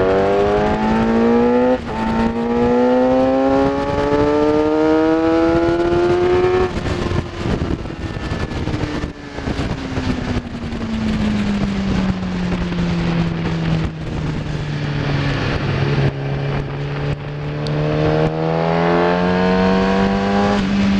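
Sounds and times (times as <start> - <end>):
motorcycle engine revving: 0.0 - 20.9
wind rush: 0.0 - 20.9.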